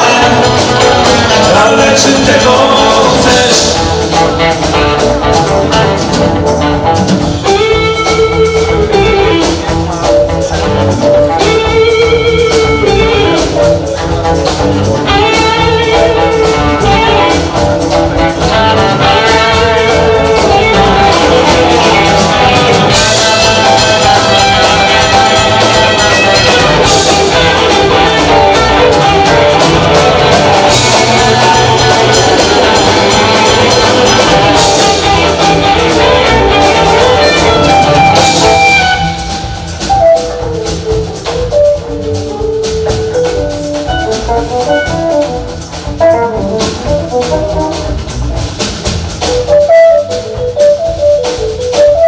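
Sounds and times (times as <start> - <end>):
bass: 0.0 - 52.0
drums: 0.0 - 52.0
electric guitar lead line: 0.0 - 52.0.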